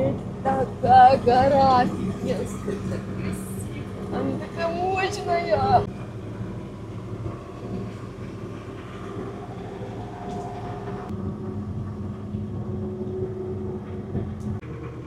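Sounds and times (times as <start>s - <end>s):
bus engine under load: 0.0s - 15.0s
high whine: 0.0s - 15.0s.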